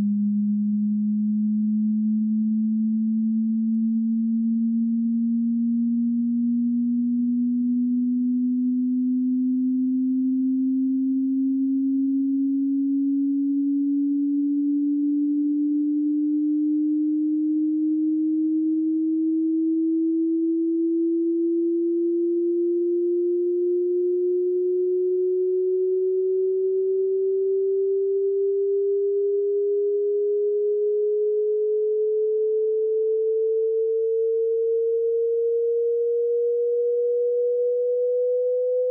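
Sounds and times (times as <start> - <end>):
electronic sine tone rising: 0.0 - 38.9.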